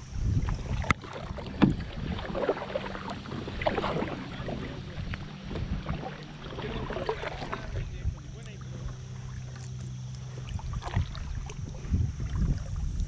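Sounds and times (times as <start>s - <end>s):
paddle splashing in water: 0.0s - 13.0s.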